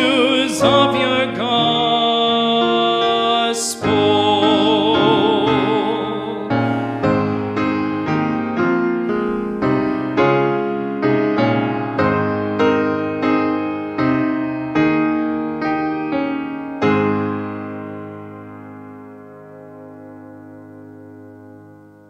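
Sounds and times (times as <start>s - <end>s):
grand piano chords: 0.0s - 22.0s.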